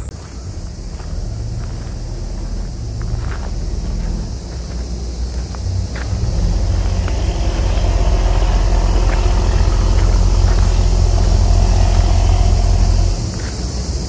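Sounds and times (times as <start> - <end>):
wind buffeting microphone: 0.2 - 14.0.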